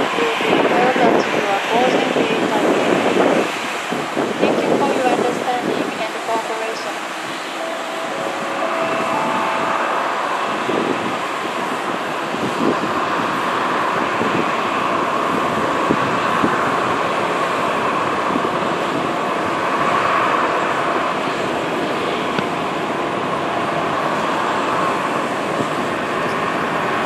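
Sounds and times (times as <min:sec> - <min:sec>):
jet engines whining: 0:00.0 - 0:27.0.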